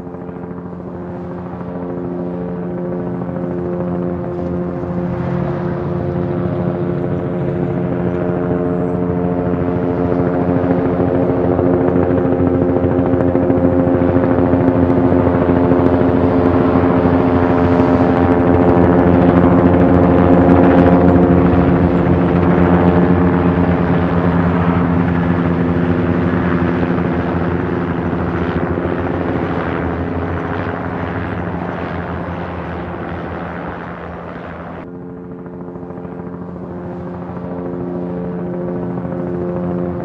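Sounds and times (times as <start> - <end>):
helicopter engine drone: 0.0 - 40.0
helicopter rotor chop: 0.0 - 40.0.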